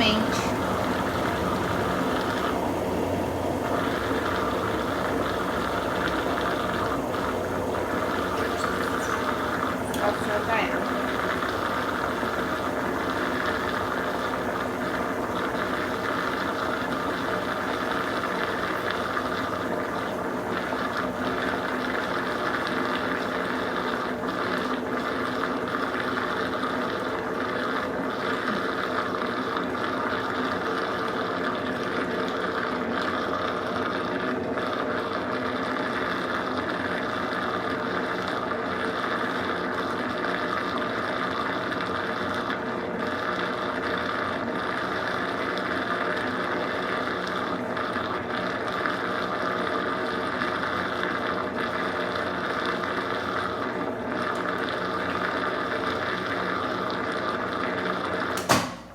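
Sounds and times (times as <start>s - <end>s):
washing machine spin cycle: 0.0s - 58.9s.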